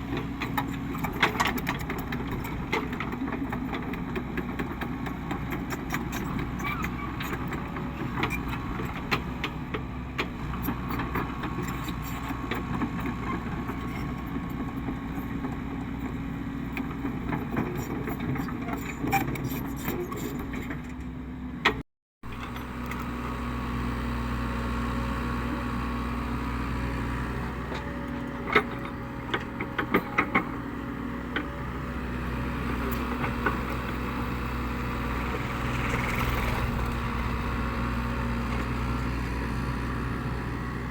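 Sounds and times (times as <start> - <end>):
excavator diesel engine running: 0.0 - 21.7, 22.3 - 40.9.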